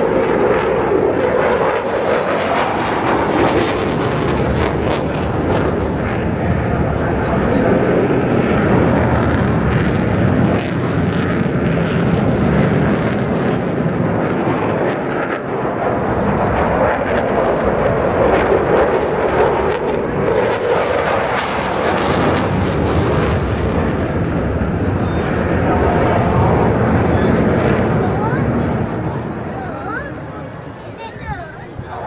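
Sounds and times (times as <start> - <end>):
jet engines roaring: 0.0 - 32.0.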